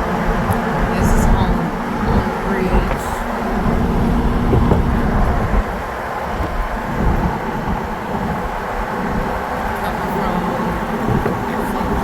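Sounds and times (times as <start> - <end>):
water by a dock: 0.0 - 12.0
wind buffeting microphone: 0.0 - 12.0.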